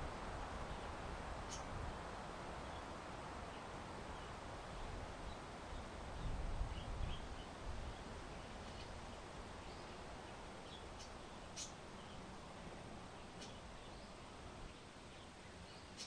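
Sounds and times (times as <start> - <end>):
small birds chirping: 0.6 - 1.8, 3.5 - 12.3, 13.1 - 16.0.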